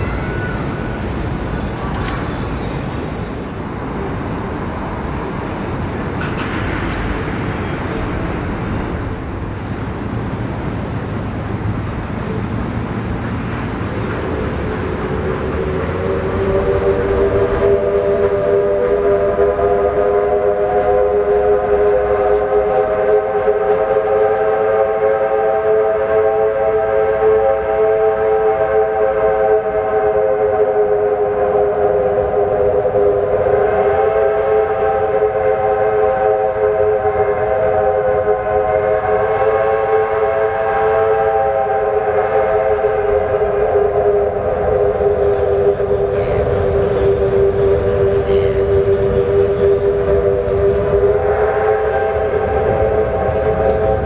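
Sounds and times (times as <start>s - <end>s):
low rumble of moving train: 0.0s - 54.0s
steam locomotive whistle: 0.0s - 54.0s.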